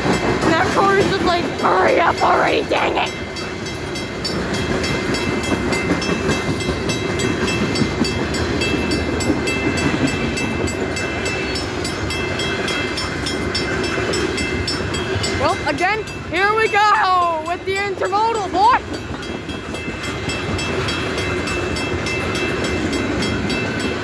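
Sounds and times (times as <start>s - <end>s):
crossing signal bell ringing: 0.0s - 24.0s
train wheels rumbling on rail: 0.0s - 24.0s.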